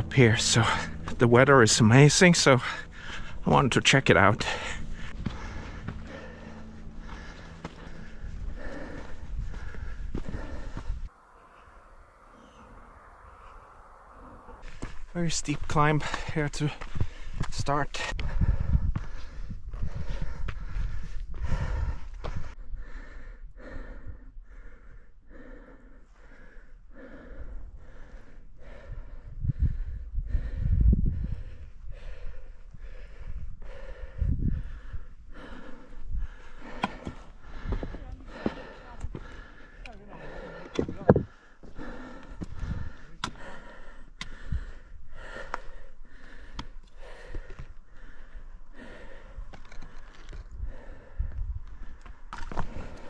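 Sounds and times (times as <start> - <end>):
person breathing hard: 2.4 - 3.5, 4.4 - 15.1, 15.9 - 53.0.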